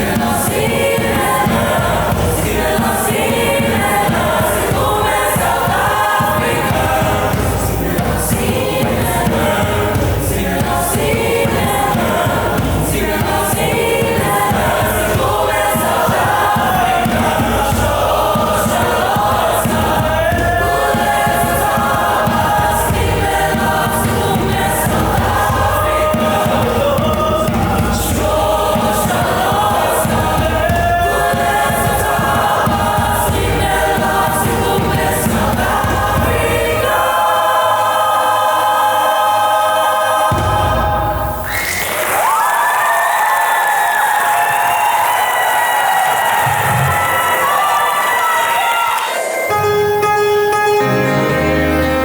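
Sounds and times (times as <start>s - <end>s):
accompaniment with steady beat: 0.0s - 42.1s, 44.0s - 52.0s
choir singing: 0.0s - 52.0s.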